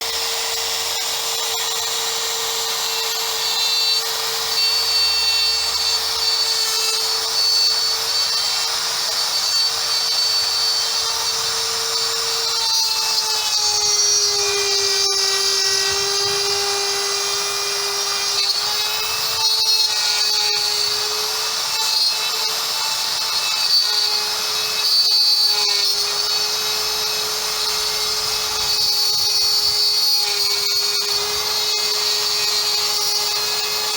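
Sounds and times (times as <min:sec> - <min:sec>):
cnc router spindle whining: 0:00.0 - 0:33.9
router cutting wood hiss: 0:00.0 - 0:33.9.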